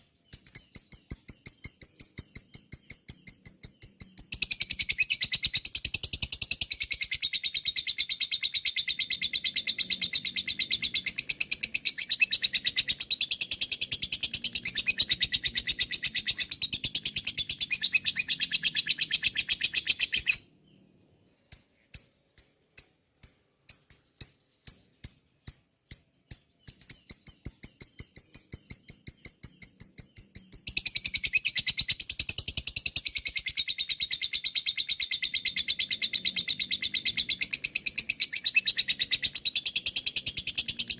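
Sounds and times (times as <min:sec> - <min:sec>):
bird chattering trill: 0:00.0 - 0:20.5, 0:23.7 - 0:40.9.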